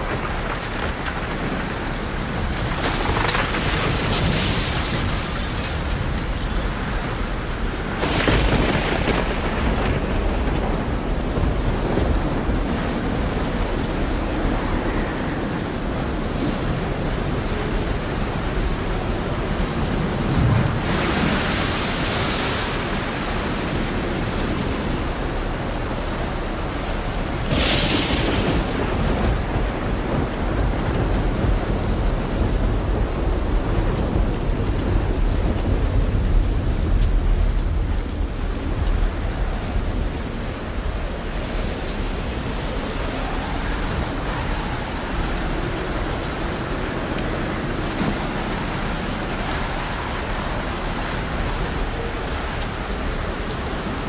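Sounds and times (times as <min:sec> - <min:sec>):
low rumble of thunder: 0:00.0 - 0:54.0
steady rain falling: 0:00.0 - 0:54.0.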